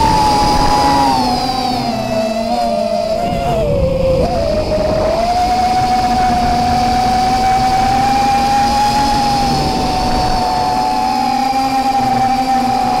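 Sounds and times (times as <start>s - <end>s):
quadcopter motors whining: 0.0s - 13.0s
wind rumbling on microphone: 0.0s - 13.0s.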